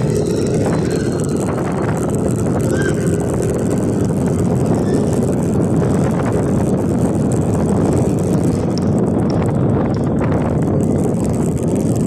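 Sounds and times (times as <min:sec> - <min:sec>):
motorcycle engine: 0:00.0 - 0:12.0
wind rushing over microphone: 0:00.0 - 0:12.0.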